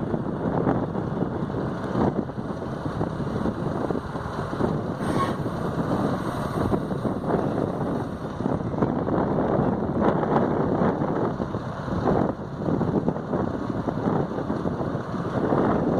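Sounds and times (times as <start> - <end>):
excavator diesel engine running: 0.0 - 15.9
wind buffeting microphone: 0.0 - 15.9.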